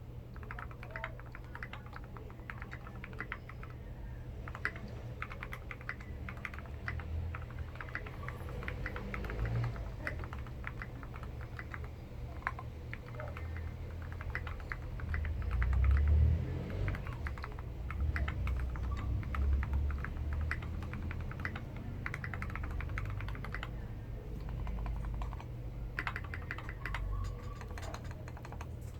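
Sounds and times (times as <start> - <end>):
mechanical keyboard typing: 0.0 - 28.9.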